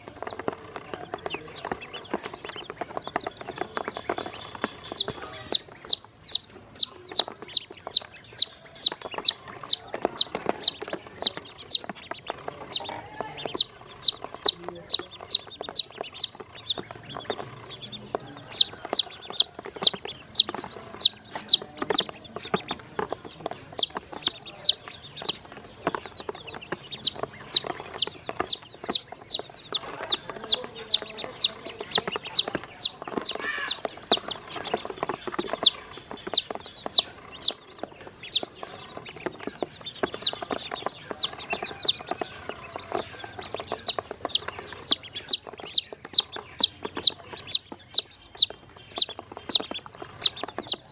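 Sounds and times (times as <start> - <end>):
chicks and ducklings peeping: 0.0 - 50.9.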